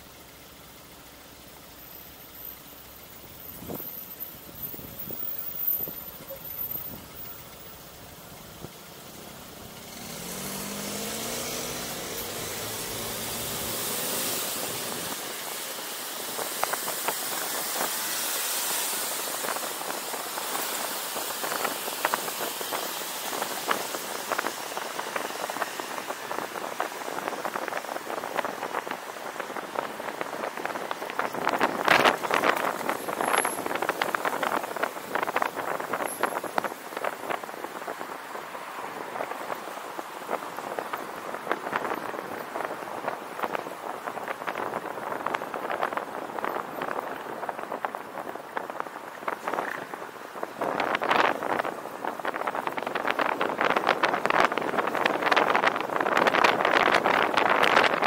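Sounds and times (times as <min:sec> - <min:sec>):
car engine pulling away: 0:00.0 - 0:58.0
road and wind hiss: 0:00.0 - 0:58.0.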